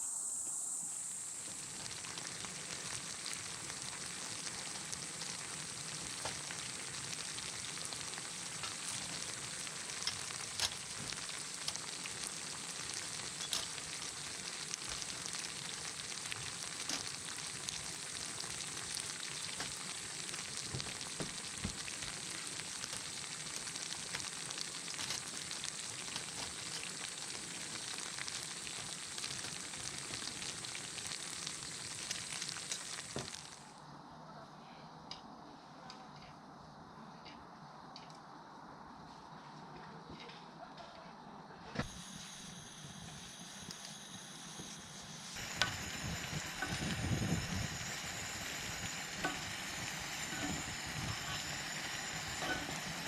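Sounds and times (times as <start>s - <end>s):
food sizzling in a hot pan: 0.0s - 33.8s, 41.8s - 53.0s.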